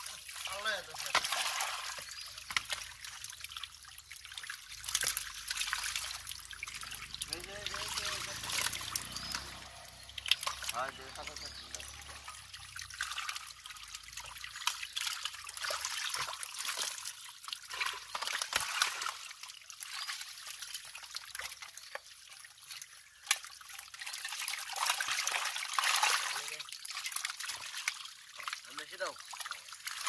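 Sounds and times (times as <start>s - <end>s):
muddy water splashing and squelching: 0.0s - 30.0s
small splashes of wriggling fish: 0.0s - 30.0s.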